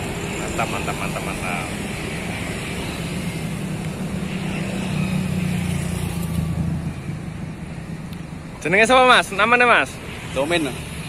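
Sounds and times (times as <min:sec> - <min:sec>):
vehicle engine passing: 0:00.0 - 0:09.5.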